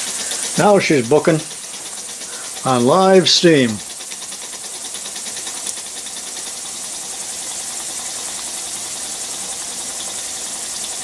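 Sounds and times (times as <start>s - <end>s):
propane burner noise: 0.0s - 11.0s
steam engine hissing and pulsing: 0.0s - 11.0s.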